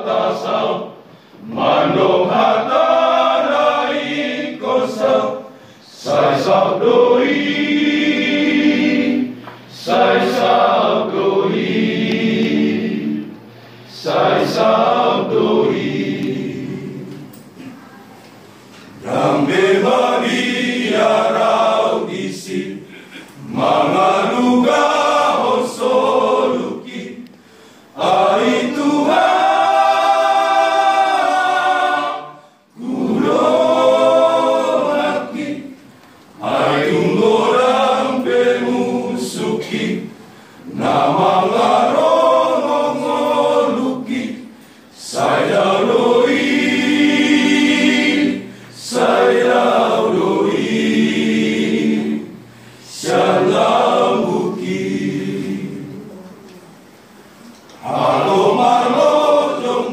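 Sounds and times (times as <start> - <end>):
men's choir singing a cappella: 0.0 - 17.5, 18.9 - 56.2, 57.8 - 59.9.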